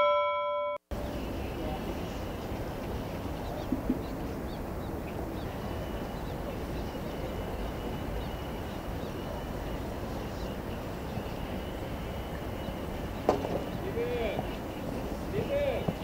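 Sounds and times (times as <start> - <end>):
outdoor background noise: 0.0 - 16.0
small birds chirping: 1.0 - 16.0.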